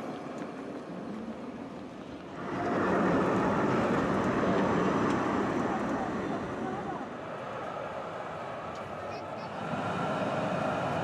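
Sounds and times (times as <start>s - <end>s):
street noise: 0.0s - 11.0s
tram passing on rails: 0.0s - 11.0s.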